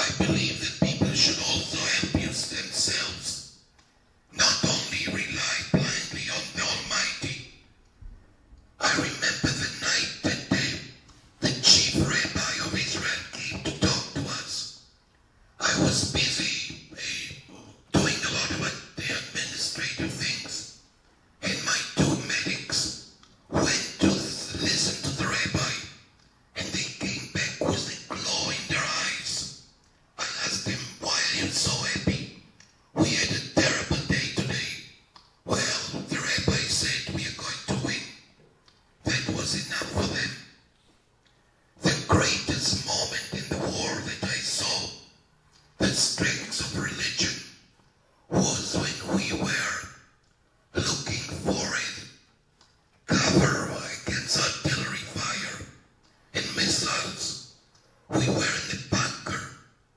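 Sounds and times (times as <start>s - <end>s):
man speaking into microphone: 0.0s - 3.5s, 4.3s - 7.6s, 8.8s - 14.8s, 15.6s - 20.8s, 21.4s - 29.6s, 30.2s - 38.3s, 39.0s - 40.5s, 41.8s - 45.1s, 45.8s - 47.6s, 48.3s - 50.0s, 50.7s - 52.2s, 53.1s - 55.8s, 56.4s - 59.7s.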